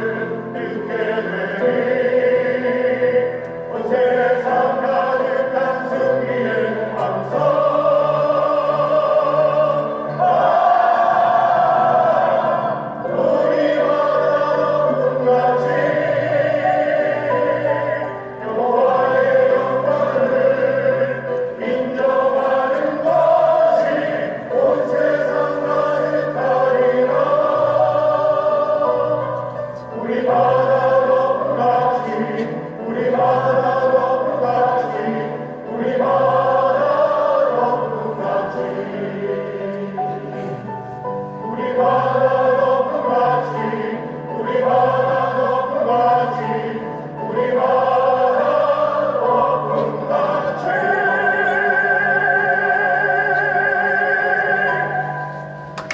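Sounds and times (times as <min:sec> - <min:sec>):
choir singing a hymn: 0:00.0 - 0:55.9
instrumental accompaniment: 0:00.0 - 0:55.9.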